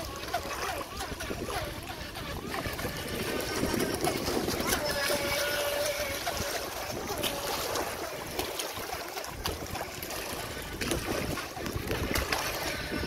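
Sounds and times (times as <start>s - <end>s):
boat motor whine: 0.0s - 13.0s
lapping water: 0.0s - 13.0s
wind: 0.0s - 13.0s.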